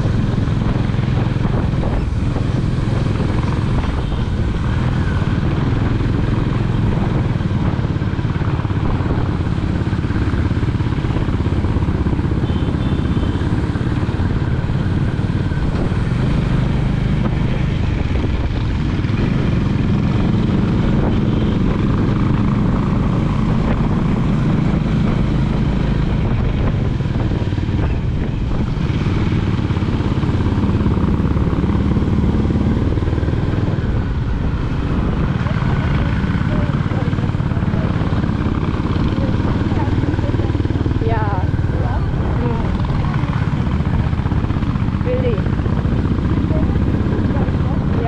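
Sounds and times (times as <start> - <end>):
motorcycle engine cruising: 0.0 - 48.0.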